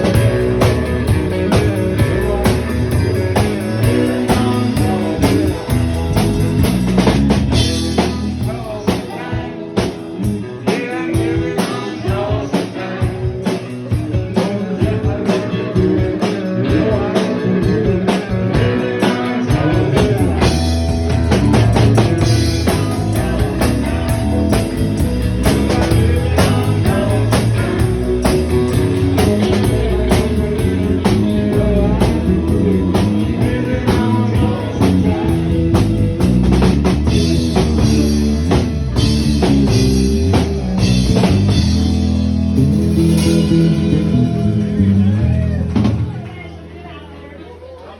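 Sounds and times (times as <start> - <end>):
band playing blues-rock: 0.0 - 47.2
bass guitar: 0.0 - 47.9.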